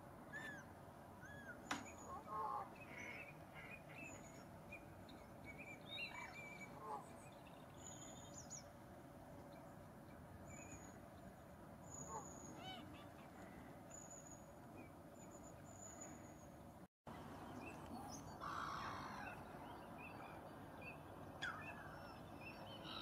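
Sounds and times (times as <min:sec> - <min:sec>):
wild birds chirping: 0:00.3 - 0:23.0.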